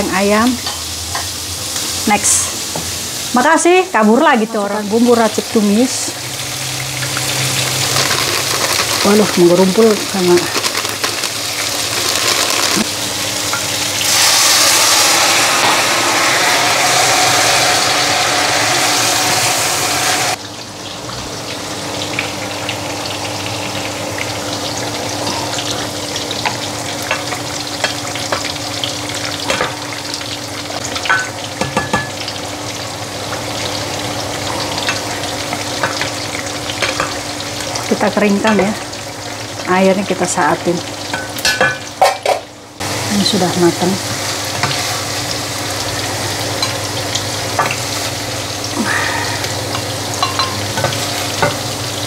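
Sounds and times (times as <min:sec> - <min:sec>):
food sizzling in a pan: 0:00.0 - 0:52.0.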